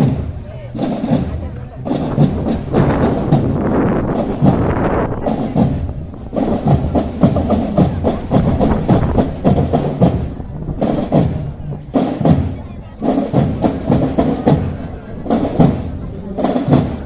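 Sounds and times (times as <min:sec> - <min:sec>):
marching drum band playing: 0:00.0 - 0:17.0.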